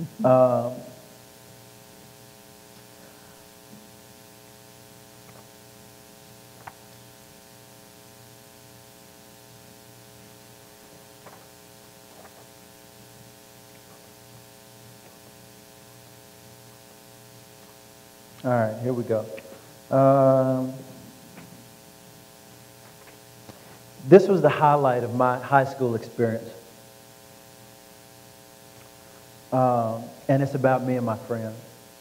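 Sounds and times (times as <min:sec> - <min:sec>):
electrical mains hum: 0:00.0 - 0:32.0.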